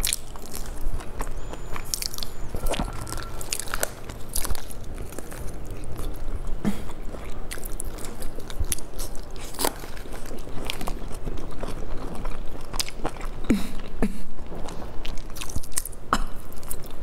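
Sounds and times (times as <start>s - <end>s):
person wet chewing: 0.0s - 17.0s.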